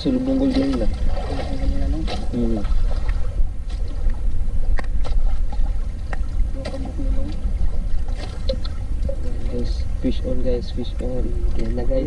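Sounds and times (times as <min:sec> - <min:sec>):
water and wind around boat hull: 0:00.0 - 0:12.0.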